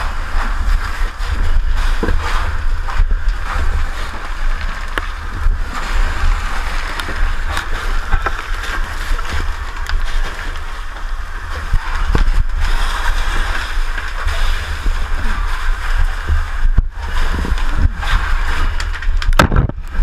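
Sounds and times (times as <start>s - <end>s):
rushing sloshing water: 0.0s - 19.9s
deep rumble: 0.0s - 20.0s.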